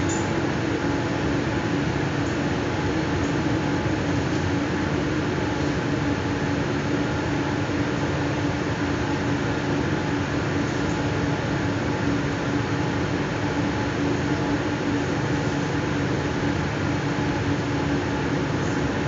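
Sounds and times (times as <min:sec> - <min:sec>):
constant low hum: 0:00.0 - 0:19.0.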